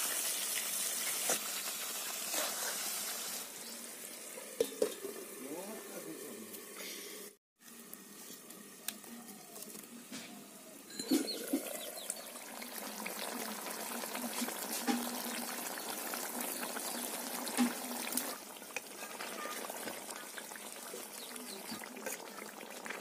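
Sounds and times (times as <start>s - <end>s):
curry sizzling in hot oil: 0.0s - 7.4s, 10.9s - 23.0s.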